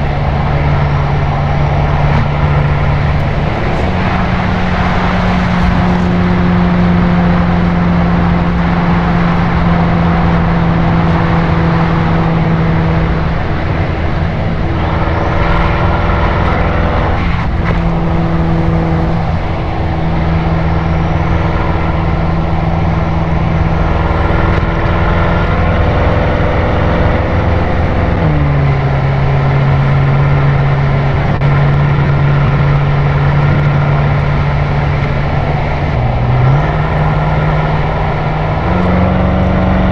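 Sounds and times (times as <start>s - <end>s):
car engine droning: 0.0s - 39.9s
wind noise: 0.0s - 39.9s.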